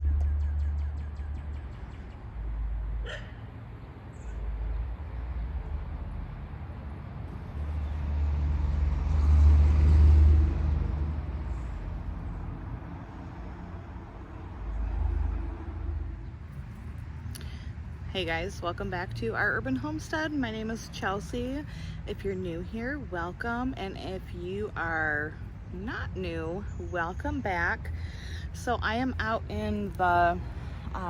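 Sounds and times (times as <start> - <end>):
vehicle passing on road: 0.0 - 31.0.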